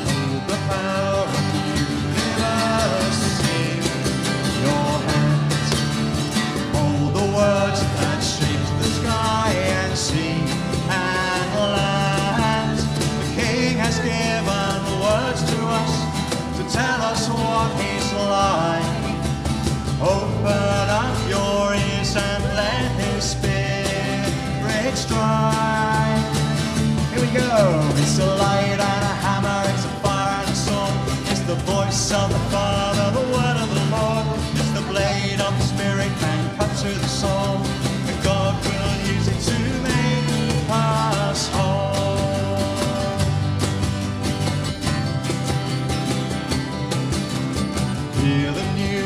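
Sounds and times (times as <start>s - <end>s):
worship song with singing voices: 0.0s - 44.0s, 48.0s - 49.0s.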